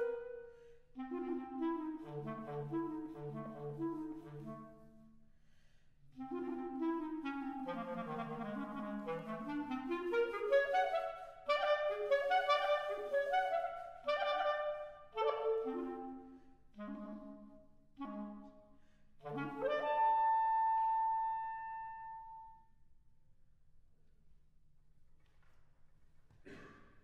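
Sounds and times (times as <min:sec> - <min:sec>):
solo clarinet playing: 0:00.0 - 0:05.2, 0:06.2 - 0:22.7.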